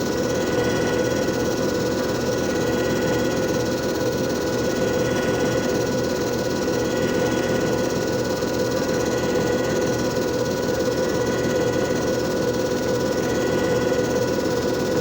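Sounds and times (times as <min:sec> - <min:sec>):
machine motor humming and whining: 0:00.0 - 0:15.0.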